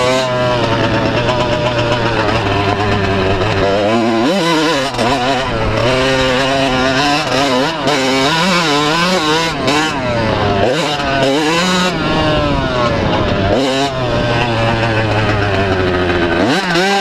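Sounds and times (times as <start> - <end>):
motocross bike engine revving: 0.0 - 17.0.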